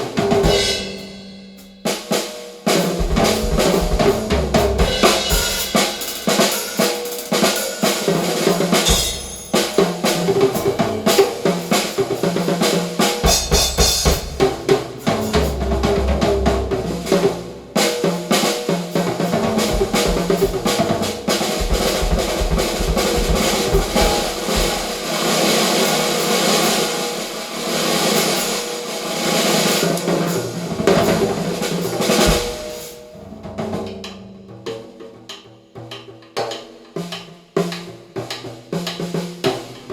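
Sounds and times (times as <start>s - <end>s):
drum and percussion track: 0.0s - 39.9s.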